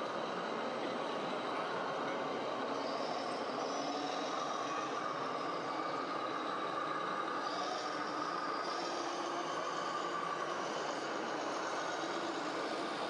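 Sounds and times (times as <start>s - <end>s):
even mechanical noise: 0.0s - 13.0s
model truck motor whine: 0.0s - 13.0s.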